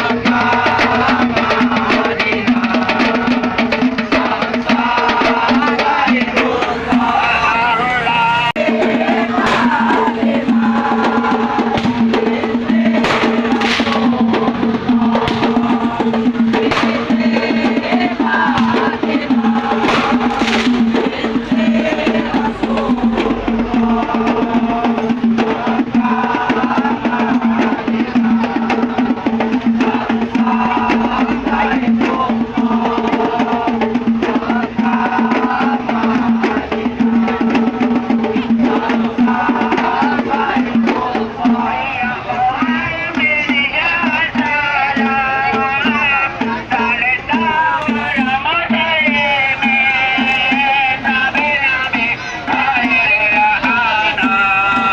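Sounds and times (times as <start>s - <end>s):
lively percussion music: 0.0s - 54.9s.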